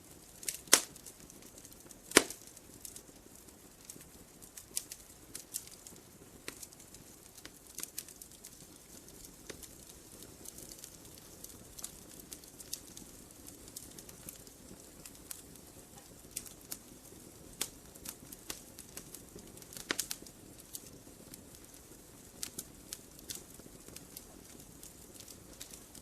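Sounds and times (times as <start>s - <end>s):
low rumble of flames: 0.0s - 26.0s
wood fire crackling and popping: 0.0s - 26.0s.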